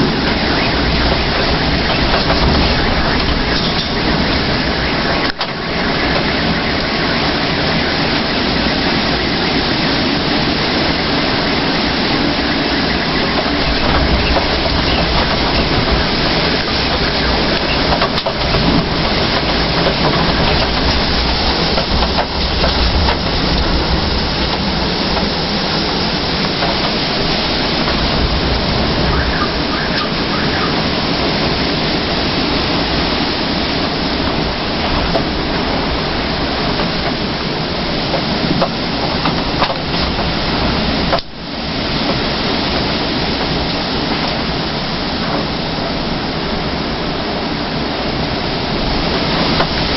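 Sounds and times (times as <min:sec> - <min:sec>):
rain: 0:00.0 - 0:49.9
strong wind buffeting microphone: 0:00.0 - 0:49.9.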